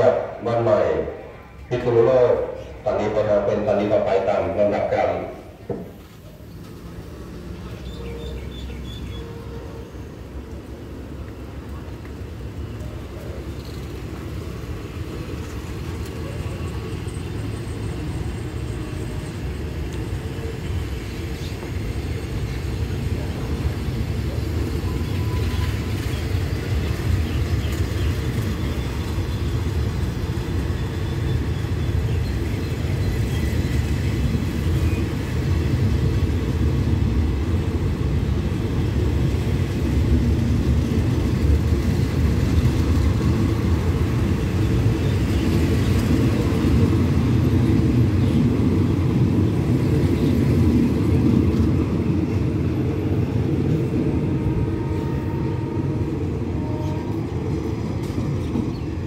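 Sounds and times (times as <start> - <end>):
train wheels rumbling on rails: 1.5 - 59.0.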